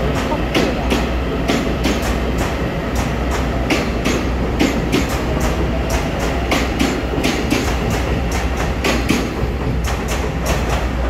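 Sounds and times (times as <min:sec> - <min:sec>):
train rumble: 0:00.0 - 0:11.0
train wheels clicking over rail joints: 0:00.0 - 0:11.0.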